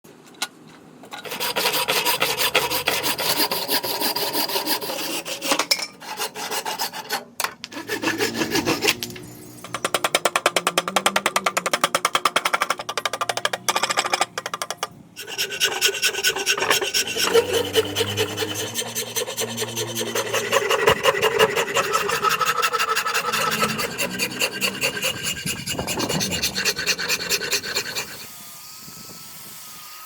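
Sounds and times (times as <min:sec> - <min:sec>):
rasp scraping wood: 0:01.2 - 0:14.1, 0:15.2 - 0:28.3.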